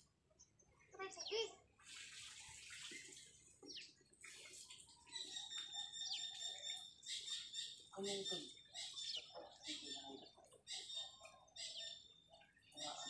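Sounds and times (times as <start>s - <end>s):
birds chirping and whistling: 1.0s - 1.5s, 2.9s - 13.0s.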